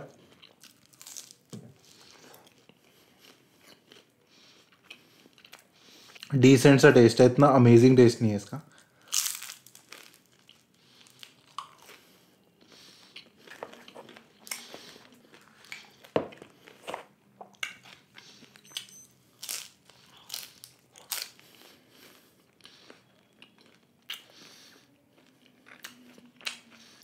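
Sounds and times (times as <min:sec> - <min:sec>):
crunchy taco chewing: 0:00.2 - 0:06.3, 0:08.7 - 0:16.9, 0:19.3 - 0:27.0.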